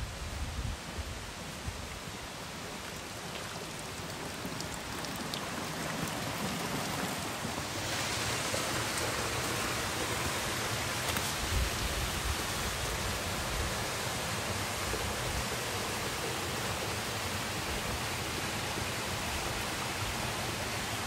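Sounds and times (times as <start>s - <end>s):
stream running over rocks: 0.1s - 21.0s.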